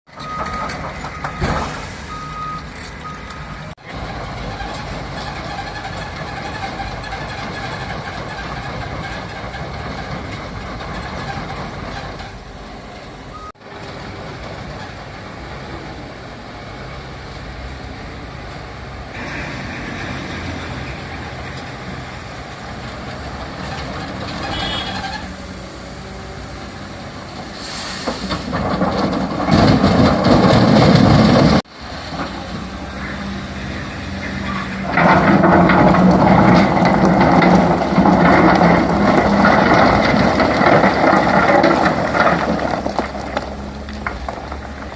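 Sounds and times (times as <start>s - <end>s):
excavator diesel engine running: 0.1s - 44.9s.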